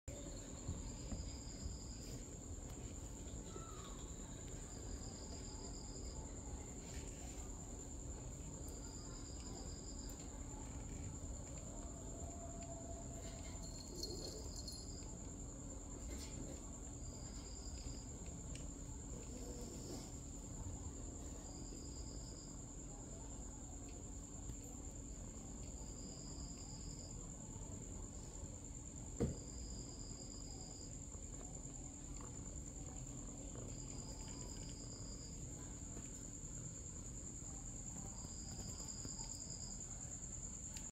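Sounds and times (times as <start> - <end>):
insects trilling: 0.1 - 40.9
low-pitched insect chirp: 0.1 - 40.9.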